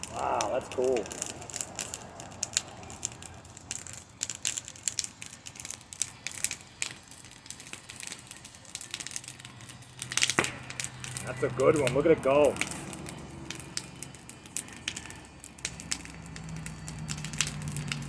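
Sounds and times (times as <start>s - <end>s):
campfire crackling: 0.0s - 18.0s
wood popping: 0.0s - 18.0s.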